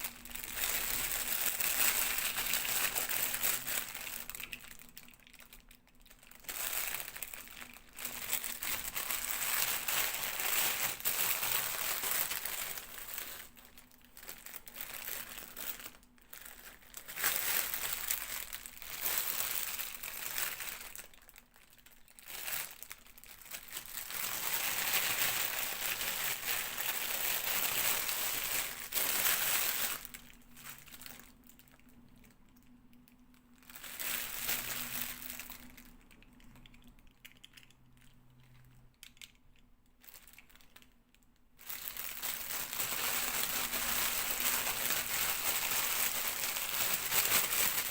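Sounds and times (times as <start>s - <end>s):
packaging crinkling: 0.0s - 32.4s, 33.6s - 39.4s, 40.0s - 41.0s, 41.6s - 47.9s.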